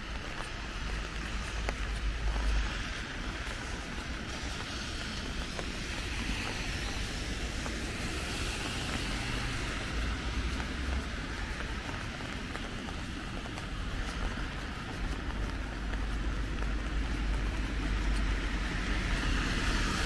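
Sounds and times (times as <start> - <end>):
rain on umbrella: 0.0 - 20.0.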